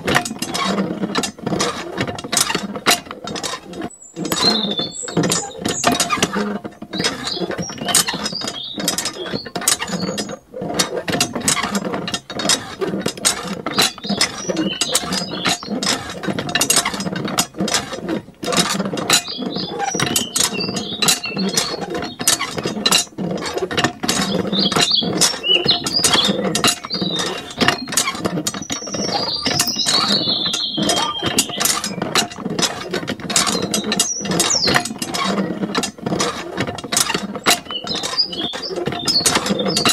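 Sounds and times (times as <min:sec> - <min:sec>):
rapid clicking and rattling: 0:00.0 - 0:39.9
short high squeaks: 0:00.2 - 0:39.9.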